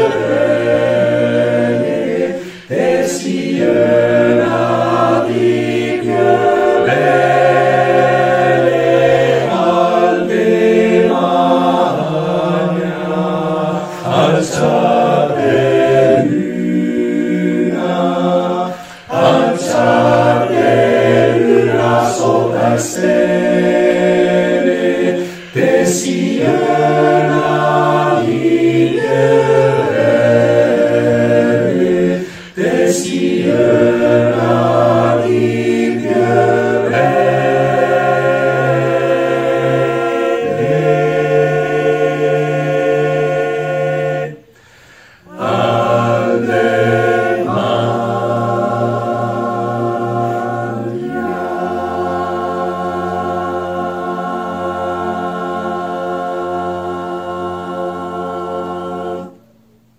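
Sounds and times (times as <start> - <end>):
male choir singing a cappella: 0.0 - 59.9.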